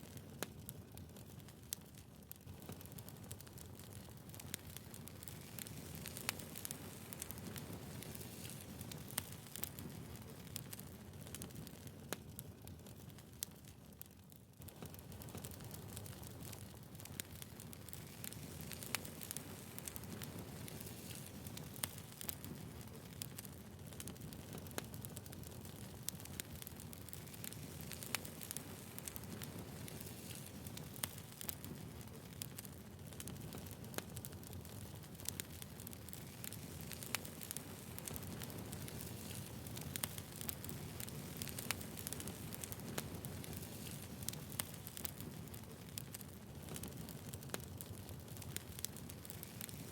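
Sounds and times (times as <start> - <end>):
campfire flames rumbling: 0.0 - 49.9
fire crackles and pops: 0.0 - 49.9
wood fire burning: 0.0 - 49.9.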